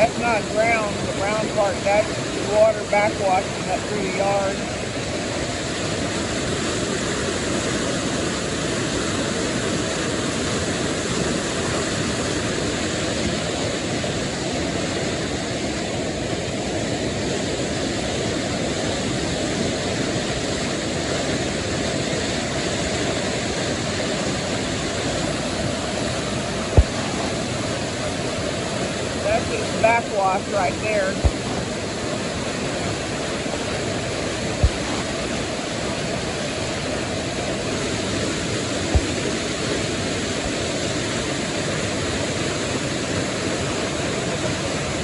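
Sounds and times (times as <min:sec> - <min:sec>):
creek water rushing: 0:00.0 - 0:45.0.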